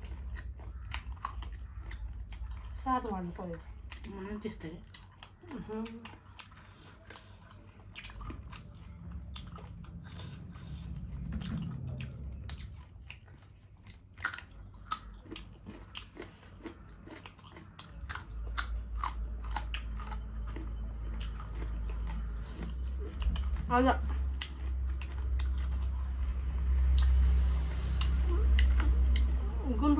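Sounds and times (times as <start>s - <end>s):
low steady hum: 0.0s - 29.9s
people chewing and crunching: 0.0s - 29.9s.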